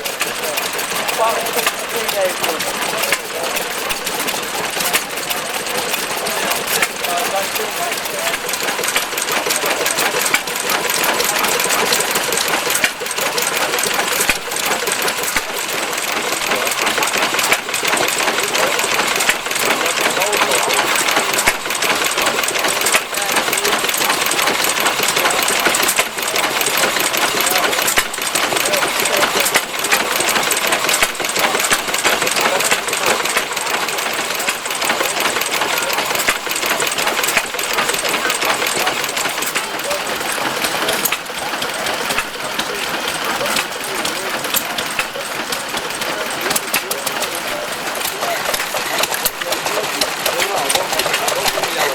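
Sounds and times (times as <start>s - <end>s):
small engine clattering: 0.0s - 51.9s.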